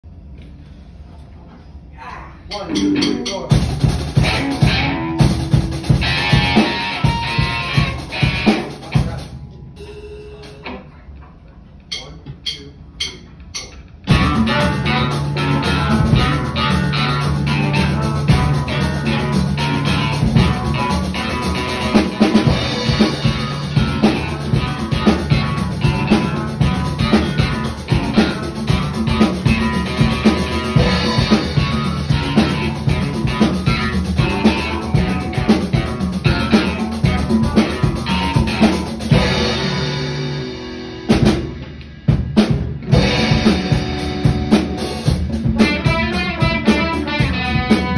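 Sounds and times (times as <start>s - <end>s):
drum kit: 2.5s - 10.8s, 11.9s - 47.9s
bass line: 2.5s - 10.9s, 14.0s - 47.9s
guitar: 2.5s - 12.1s, 13.4s - 47.9s.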